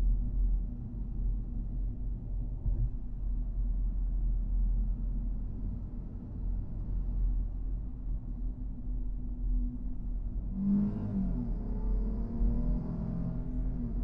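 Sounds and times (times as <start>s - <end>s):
vehicle driving on road: 0.0s - 14.0s.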